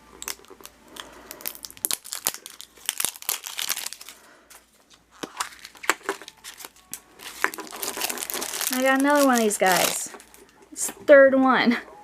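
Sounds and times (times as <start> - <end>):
plastic wrapper crinkling and tearing: 0.0 - 10.9.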